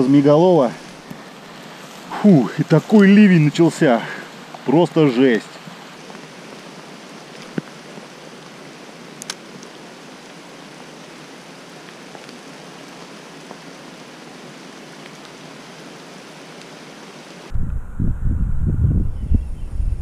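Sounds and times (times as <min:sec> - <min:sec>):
heavy rain: 0:00.0 - 0:17.6.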